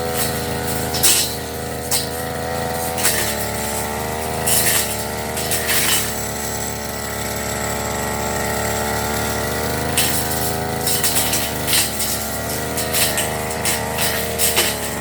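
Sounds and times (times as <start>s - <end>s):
blade hissing through grass: 0.0s - 15.0s
brush cutter engine running: 0.0s - 15.0s.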